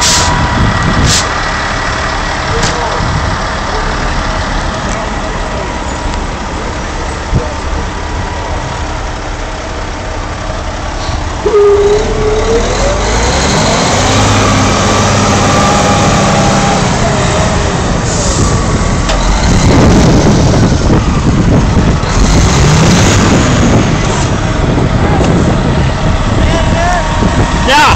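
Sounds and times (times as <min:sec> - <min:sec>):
diesel truck engine revving: 0:00.0 - 0:27.9.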